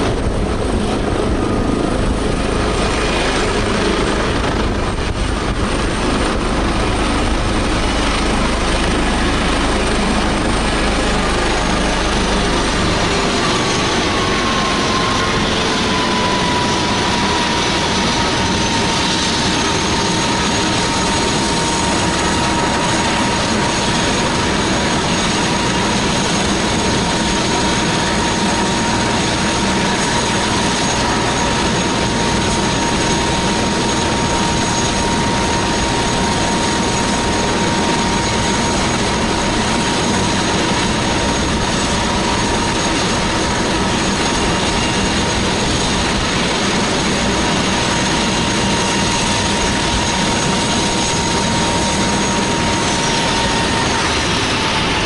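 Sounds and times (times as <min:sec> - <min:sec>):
helicopter engine and rotors running: 0:00.0 - 0:55.0.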